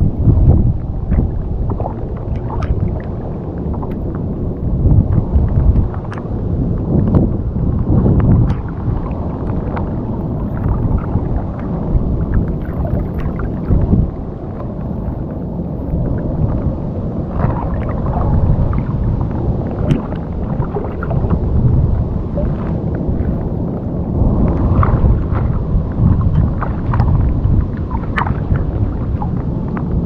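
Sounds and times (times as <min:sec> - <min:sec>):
strong wind buffeting microphone: 0:00.0 - 0:30.0.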